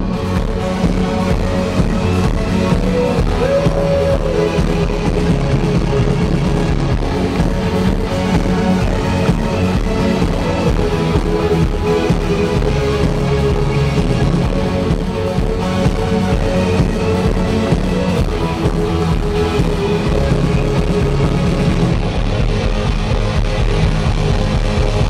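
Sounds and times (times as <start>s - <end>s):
driving electronic beat: 0.0s - 25.0s
guitar: 0.0s - 25.0s
rock band playing through pa: 0.0s - 25.0s.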